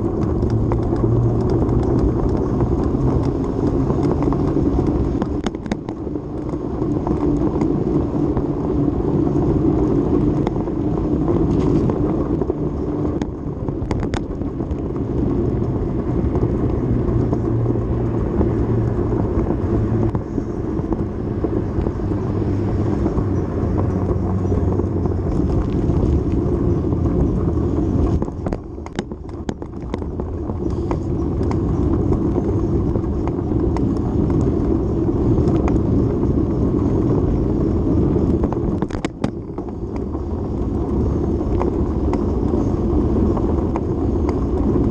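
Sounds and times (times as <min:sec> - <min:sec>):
sharp clicks and rattles: 0:00.0 - 0:44.9
wind and road noise: 0:00.0 - 0:44.9.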